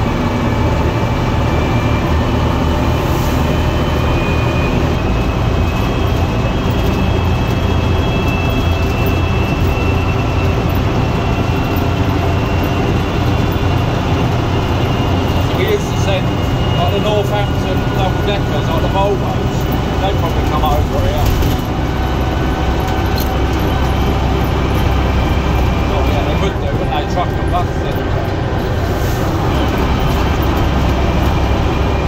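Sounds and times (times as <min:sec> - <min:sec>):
bus diesel engine drone: 0:00.0 - 0:32.0
faint high whine: 0:00.4 - 0:32.0.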